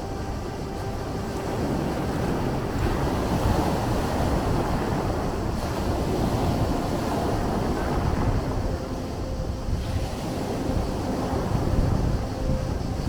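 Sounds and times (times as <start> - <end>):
sea waves surging: 0.0 - 13.0.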